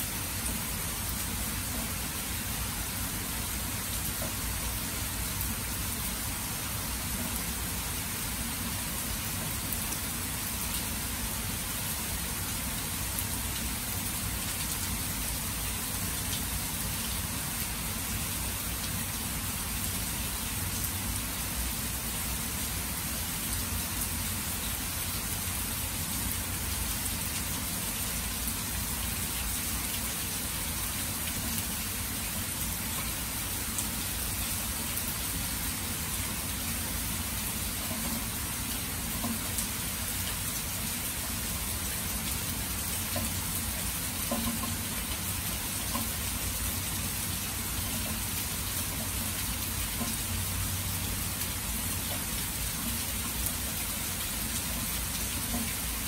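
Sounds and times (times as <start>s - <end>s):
rain falling on water and grass: 0.0s - 56.0s.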